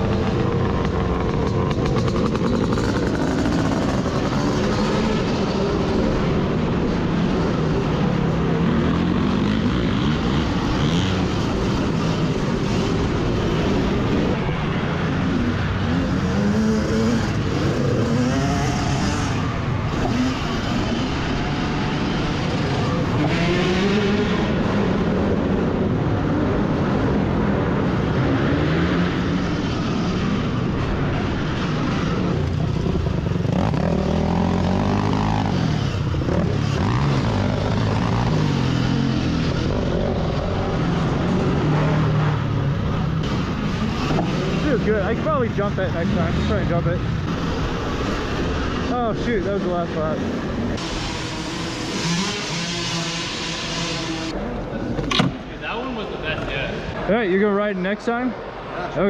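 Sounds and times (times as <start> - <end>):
dirt bikes accelerating: 0.0 - 59.0
steady rushing noise: 0.0 - 59.0.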